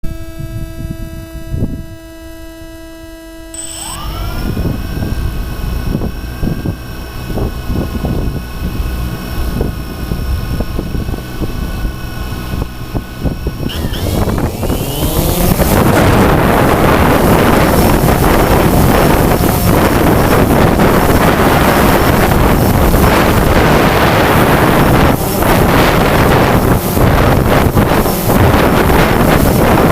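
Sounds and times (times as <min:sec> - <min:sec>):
drone motors whining: 0:00.1 - 0:29.9
wind buffeting microphone: 0:04.0 - 0:29.9.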